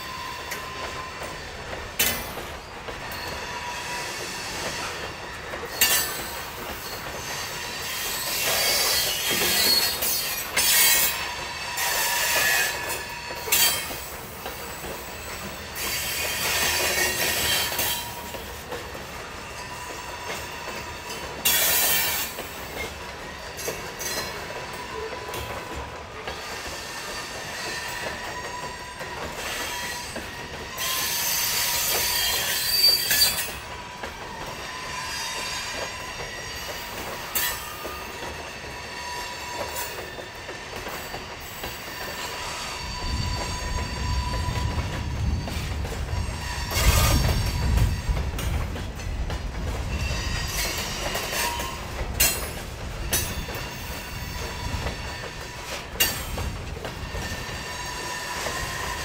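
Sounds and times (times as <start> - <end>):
freight train rolling: 0.0 - 59.0
track creaking: 0.0 - 59.0.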